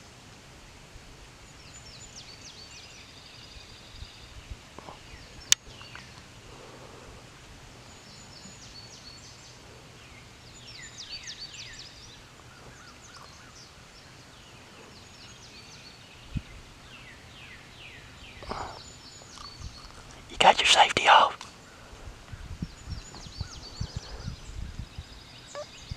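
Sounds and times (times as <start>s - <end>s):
songbirds chirping and whistling: 1.5s - 7.2s, 7.8s - 20.4s, 21.5s - 25.9s.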